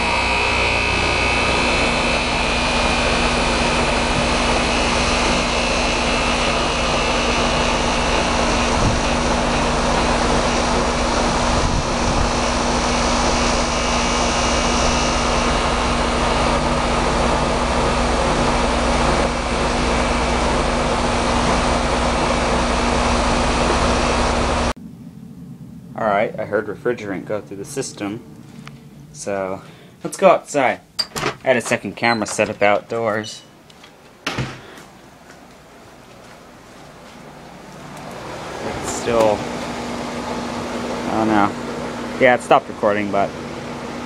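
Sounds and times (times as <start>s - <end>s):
blower humming: 0.0s - 44.0s.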